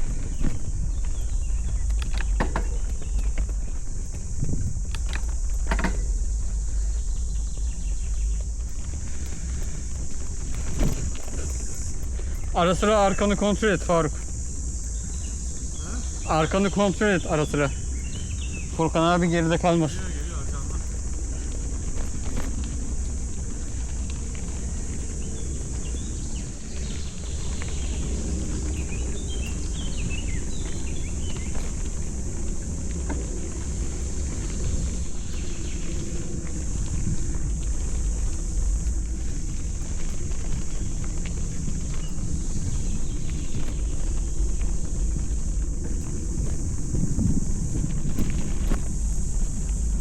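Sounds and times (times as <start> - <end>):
small birds chirping: 0.0 - 37.3, 37.9 - 50.0
steady high hiss: 0.0 - 50.0
wind rumbling on microphone: 0.0 - 50.0.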